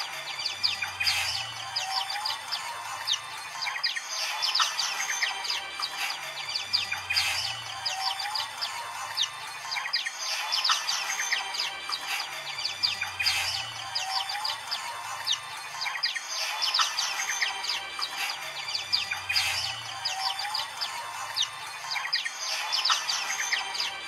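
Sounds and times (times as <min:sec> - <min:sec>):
birds chirping and twittering: 0:00.0 - 0:24.0.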